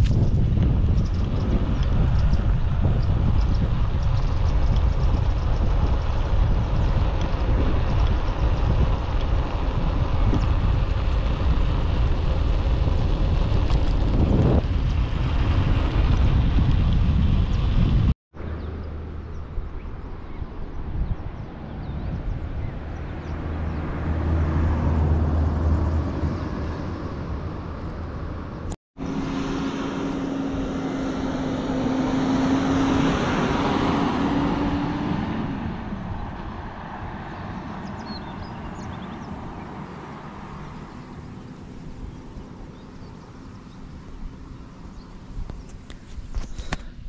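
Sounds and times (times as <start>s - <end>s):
passing vehicle engine hum: 0.0s - 47.0s
wind rumble on microphone: 0.0s - 47.0s.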